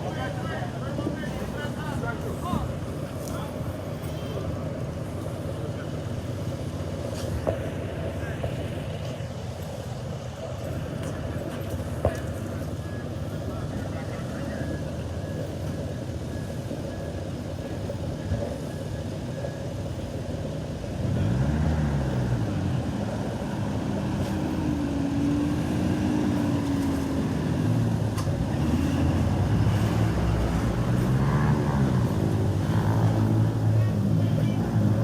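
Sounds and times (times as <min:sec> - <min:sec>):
street traffic rumble: 0:00.0 - 0:35.0
vehicle engine running nearby: 0:00.0 - 0:35.0.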